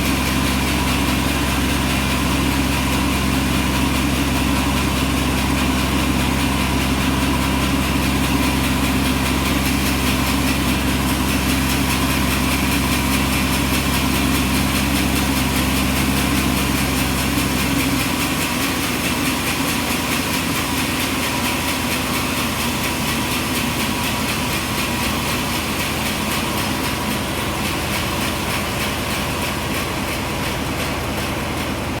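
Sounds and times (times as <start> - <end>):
engine low hum: 0.0 - 32.0
high steady machine noise: 0.0 - 32.0.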